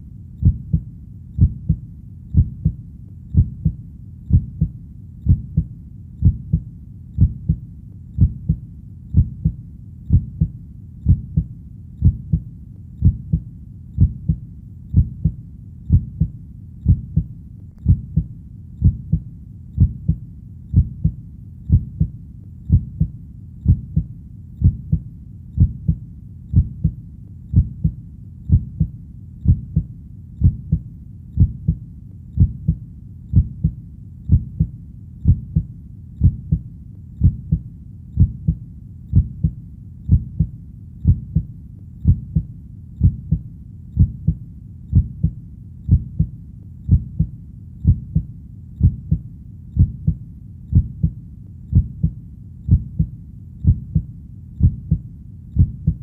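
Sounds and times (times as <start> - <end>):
heartbeat thumps: 0.0 - 7.6, 8.2 - 56.0.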